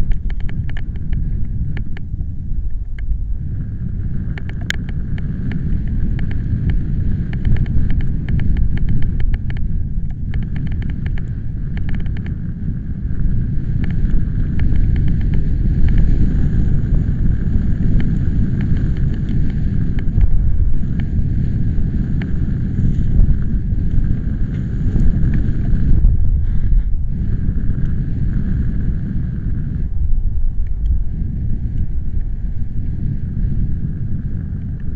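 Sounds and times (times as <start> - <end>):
sharp ticks: 0.0 - 2.1, 2.7 - 3.2, 4.1 - 29.9, 30.6 - 32.8
storm wind buffeting microphone: 0.0 - 34.9.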